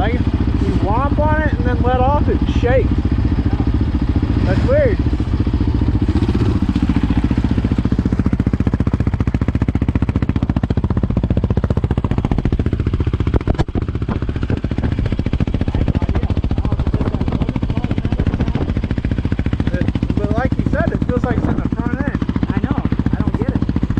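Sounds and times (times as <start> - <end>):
single-cylinder engine running: 0.0 - 23.9.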